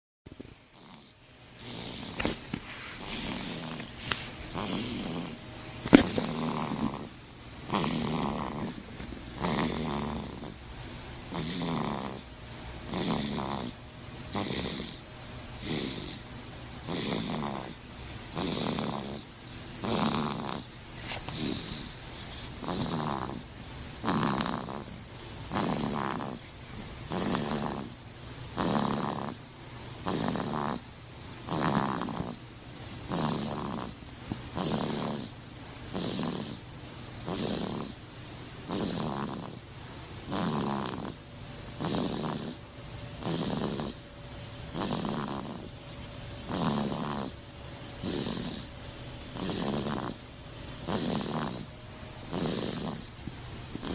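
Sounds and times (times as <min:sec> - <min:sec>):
rhythmic snoring: 0:00.6 - 0:53.9.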